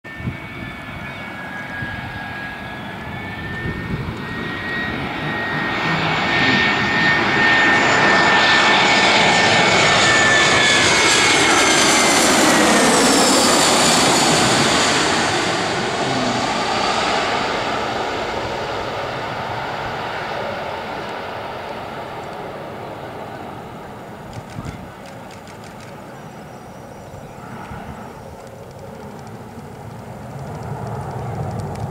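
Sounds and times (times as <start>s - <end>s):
jet airliner flying overhead: 0.1s - 31.9s.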